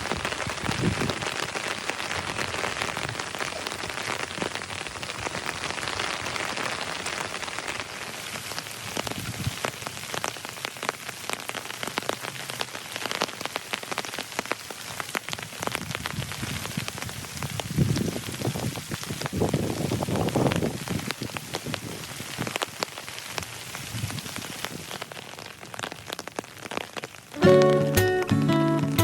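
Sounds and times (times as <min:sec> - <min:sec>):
raindrops ticking close by: 0:00.0 - 0:29.0
steady rain falling: 0:00.0 - 0:29.0.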